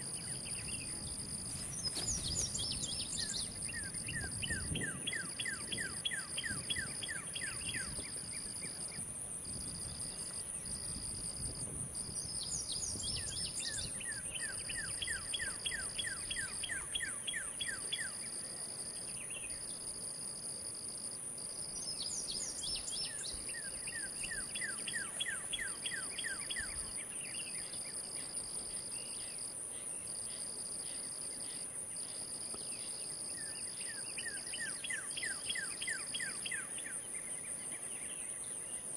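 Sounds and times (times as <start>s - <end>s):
insects buzzing: 0.0s - 38.9s
pulsing insect trill: 0.0s - 38.9s.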